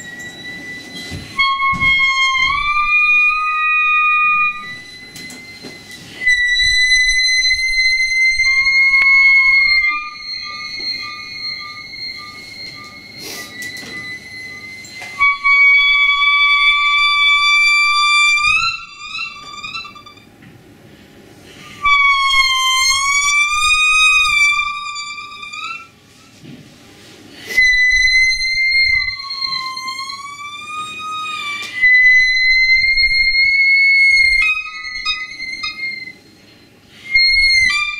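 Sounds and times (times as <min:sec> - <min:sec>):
electronic wind instrument notes: 0:00.0 - 0:20.4, 0:21.6 - 0:26.0, 0:27.5 - 0:37.9.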